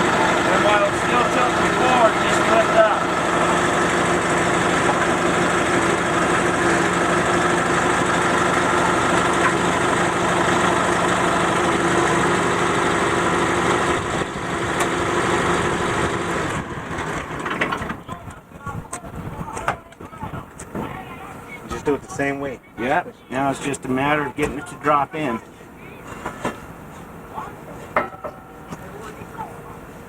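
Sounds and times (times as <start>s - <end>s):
forklift engine humming: 0.0s - 30.0s.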